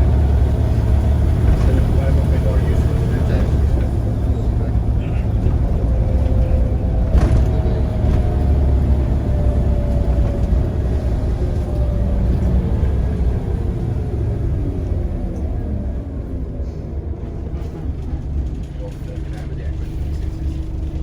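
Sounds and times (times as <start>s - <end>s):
bus engine rumbling: 0.0s - 21.0s
drivetrain whine: 0.0s - 21.0s.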